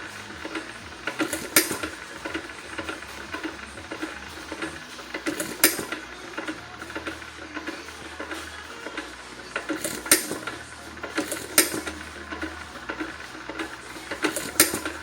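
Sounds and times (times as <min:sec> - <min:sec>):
metallic clicking: 0:00.0 - 0:15.0
single-cylinder engine running: 0:00.0 - 0:15.0.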